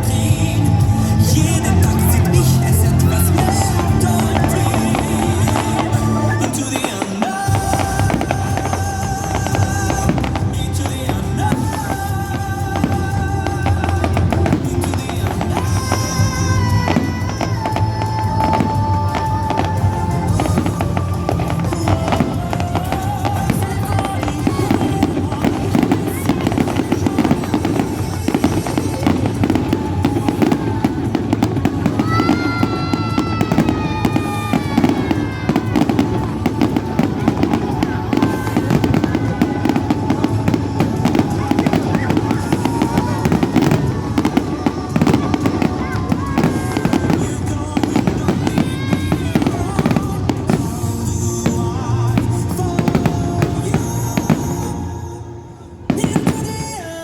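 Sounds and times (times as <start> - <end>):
fireworks crackling and popping: 0.0 - 57.0
music playing: 0.0 - 57.0.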